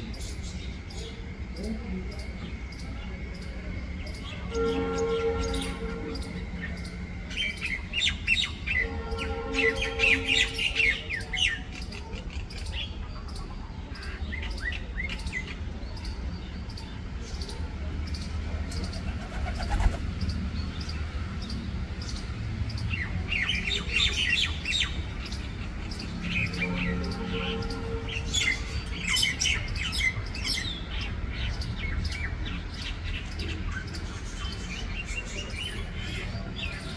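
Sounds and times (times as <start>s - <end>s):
bird chirping and twittering: 0.0s - 36.9s.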